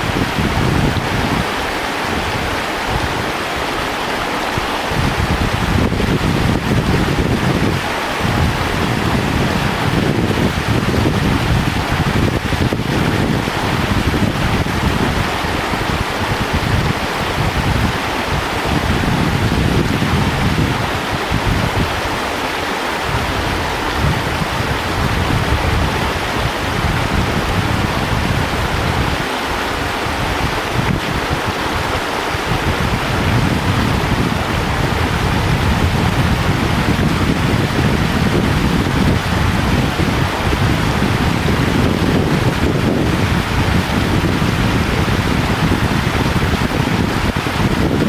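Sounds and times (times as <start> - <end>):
river water rushing: 0.0 - 48.0
wind buffeting microphone: 0.0 - 48.0.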